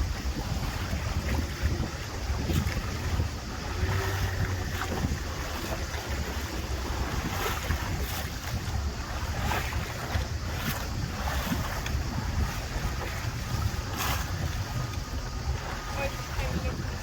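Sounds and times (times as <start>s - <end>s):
boat engine rumbling: 0.0s - 17.0s
water rushing past hull: 0.0s - 17.0s
wind buffeting microphone: 0.0s - 17.0s.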